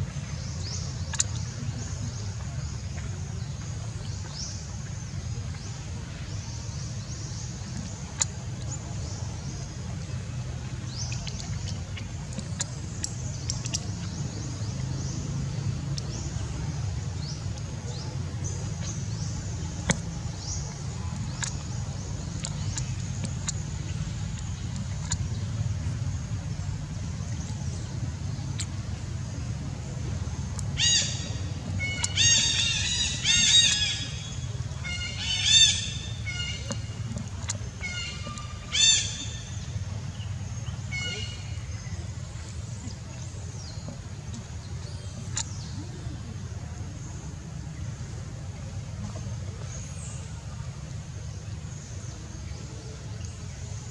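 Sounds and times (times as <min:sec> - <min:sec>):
outdoor background noise: 0:00.0 - 0:53.9.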